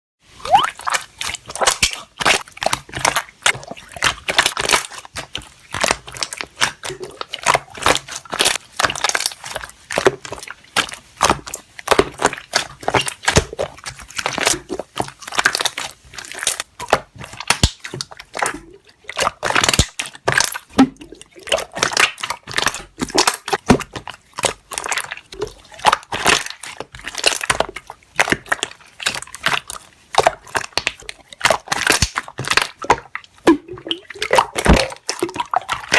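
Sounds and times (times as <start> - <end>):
slime squeezed by hand: 0.2 - 35.9
air bubbles popping in slime: 0.3 - 35.9.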